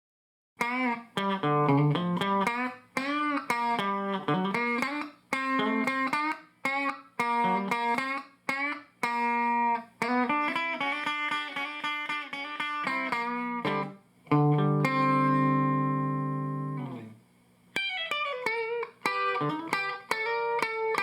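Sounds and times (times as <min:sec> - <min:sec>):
electric guitar with string bends: 0:00.6 - 0:21.0.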